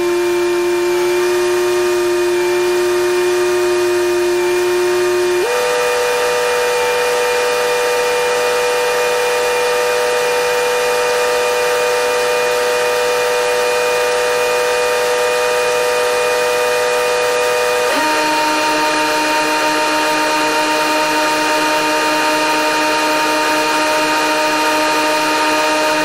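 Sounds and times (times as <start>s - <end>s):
silage blower whining: 0.0s - 26.0s.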